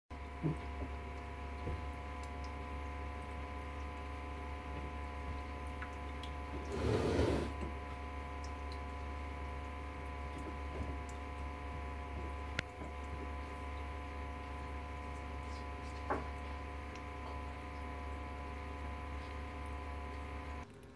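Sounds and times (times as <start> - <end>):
aquarium pump humming: 0.2 - 20.7.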